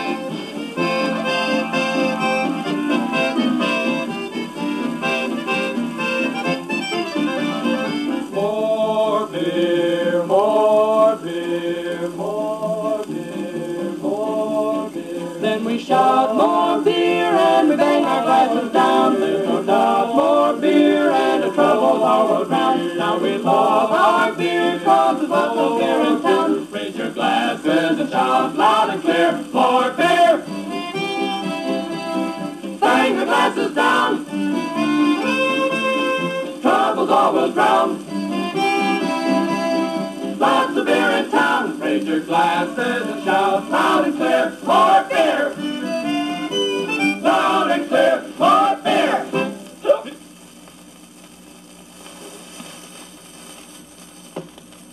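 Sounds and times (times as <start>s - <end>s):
old record playing instrumental music: 0.0s - 54.9s.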